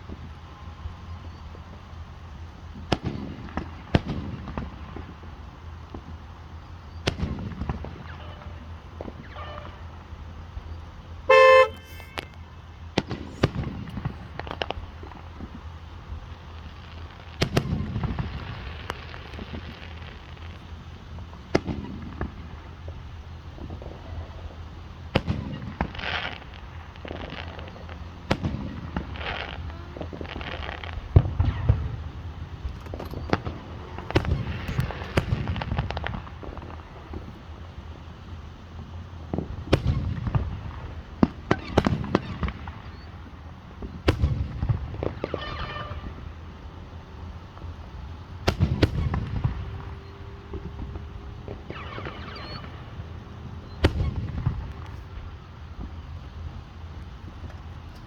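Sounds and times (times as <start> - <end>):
fireworks bangs: 11.3 - 58.0
fireworks popping: 11.3 - 58.0.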